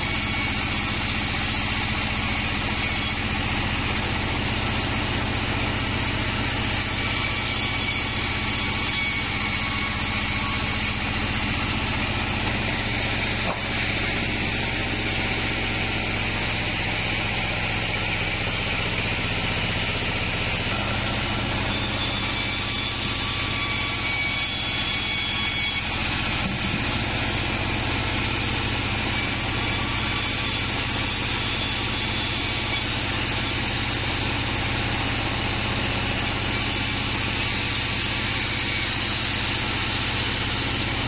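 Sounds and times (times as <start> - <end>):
motor hum: 0.0 - 41.0.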